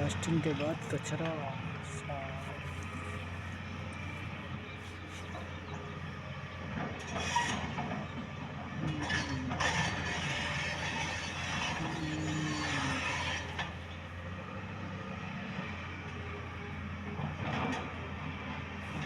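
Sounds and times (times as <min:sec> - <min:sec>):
excavator diesel engine running: 0:00.0 - 0:19.0
hydraulics whining: 0:00.0 - 0:19.0.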